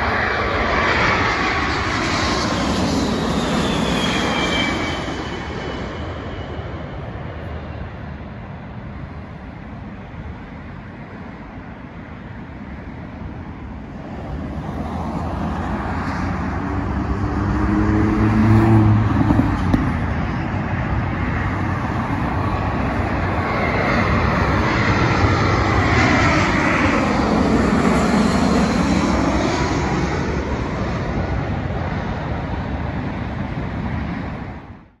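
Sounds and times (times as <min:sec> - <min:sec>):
jet airliner passing overhead: 0:00.0 - 0:35.0
road traffic: 0:00.0 - 0:35.0.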